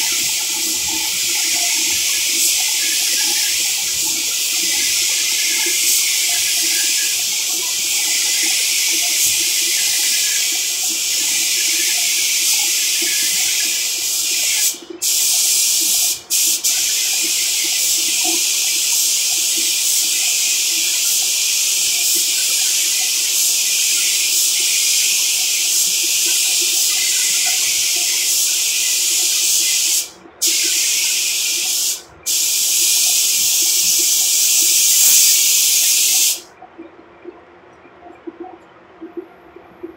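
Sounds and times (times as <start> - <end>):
paint spray gun hissing: 0.0 - 36.4.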